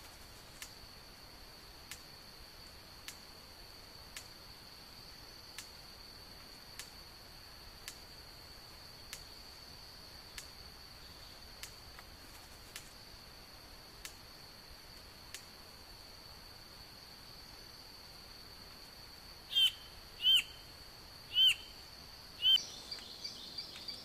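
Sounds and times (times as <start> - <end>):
insect droning: 0.0 - 24.0.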